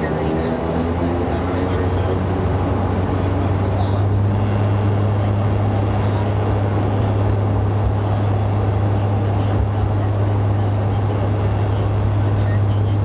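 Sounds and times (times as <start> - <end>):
turboprop engines droning in cabin: 0.0 - 13.0.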